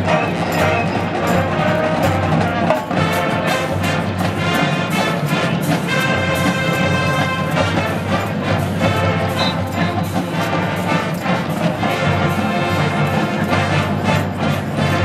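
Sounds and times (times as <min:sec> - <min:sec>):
brass chords: 0:00.0 - 0:15.0
drumline steady beat: 0:00.0 - 0:15.0.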